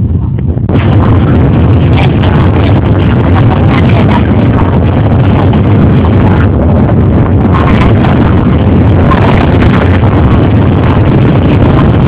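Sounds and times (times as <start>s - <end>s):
motorcycle and quad engines rumbling: 0.0s - 12.0s.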